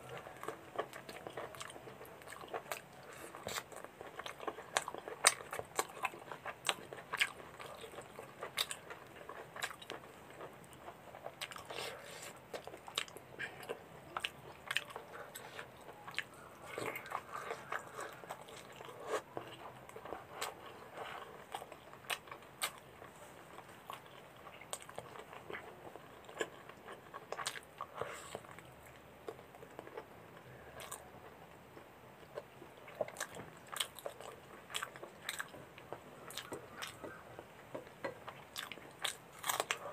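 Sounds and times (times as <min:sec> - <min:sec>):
man chewing food: 0:00.0 - 0:39.9.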